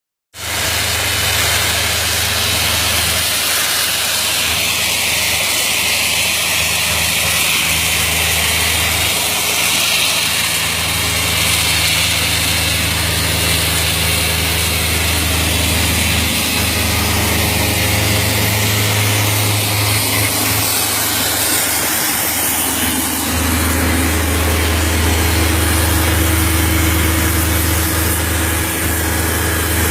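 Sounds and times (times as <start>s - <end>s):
air compressor engine drone: 0.4s - 29.9s
blast nozzle hissing: 0.4s - 29.9s.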